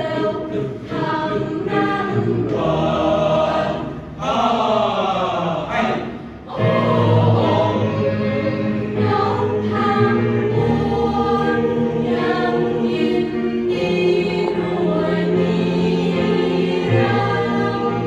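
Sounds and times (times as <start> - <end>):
youth choir singing in harmony: 0.0 - 18.0.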